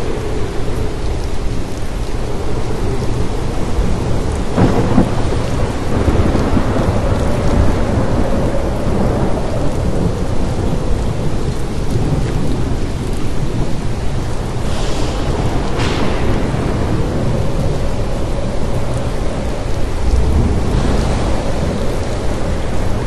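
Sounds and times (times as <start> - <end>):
heavy rain: 0.0 - 23.0
thunder crack: 0.0 - 23.0
thunder rumbling: 0.0 - 23.0.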